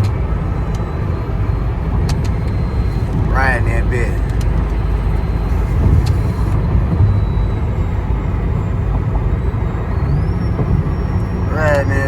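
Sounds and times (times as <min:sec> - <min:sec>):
car cabin road rumble: 0:00.0 - 0:12.0
low hum: 0:00.0 - 0:12.0.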